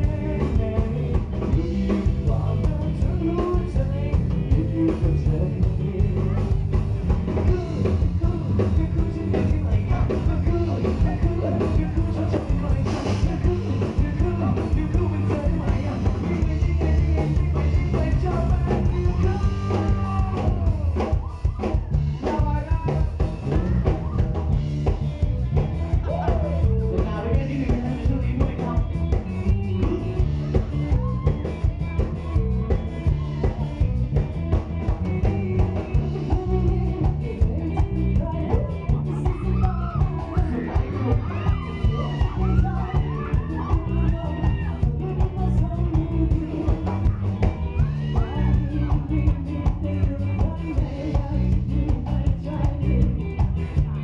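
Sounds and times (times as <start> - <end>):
live rock band playing: 0.0 - 54.0
singer: 0.0 - 54.0.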